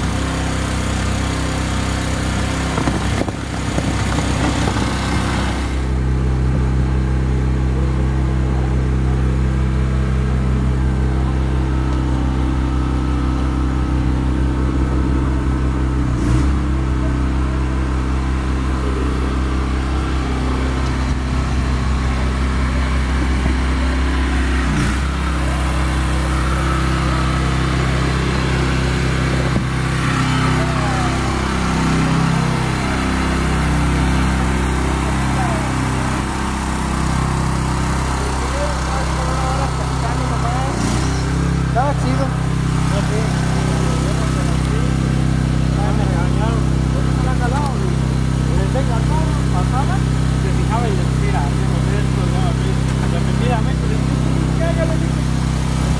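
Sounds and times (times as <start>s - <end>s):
hydraulic pump engine running: 0.0s - 55.9s.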